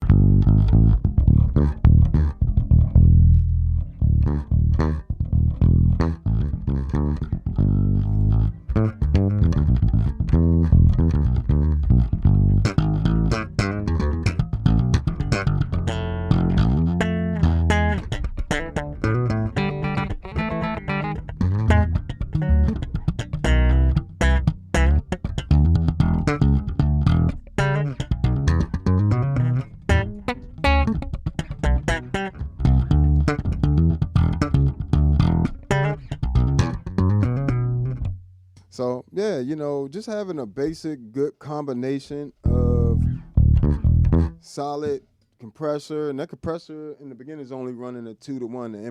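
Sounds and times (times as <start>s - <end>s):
electric bass guitar plucked notes: 0.0s - 38.8s, 42.4s - 44.9s.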